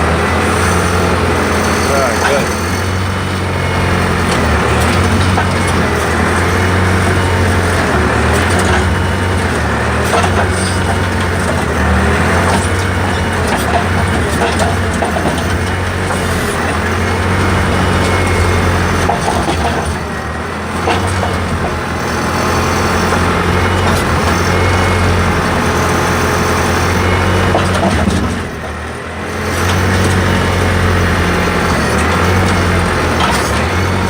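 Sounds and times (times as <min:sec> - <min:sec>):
backhoe engine running: 0:00.0 - 0:34.0.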